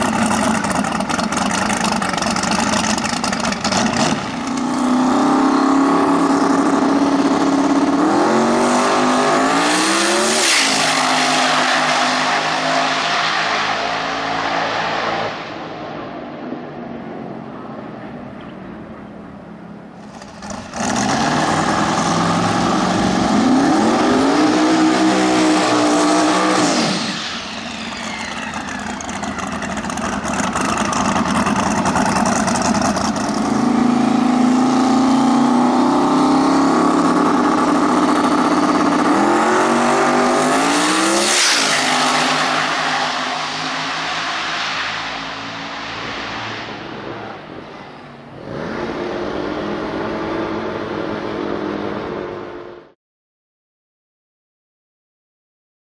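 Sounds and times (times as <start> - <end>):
drag car engine revving: 0.0 - 15.4, 20.0 - 52.7.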